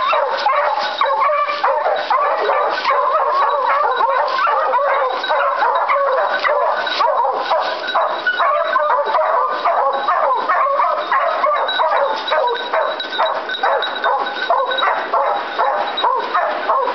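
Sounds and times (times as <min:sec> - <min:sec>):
hounds baying: 0:00.0 - 0:16.9.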